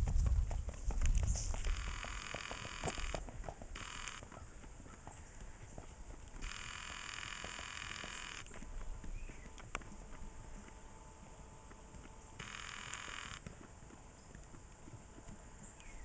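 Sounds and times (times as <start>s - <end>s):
horse hooves on dirt: 0.0s - 16.0s.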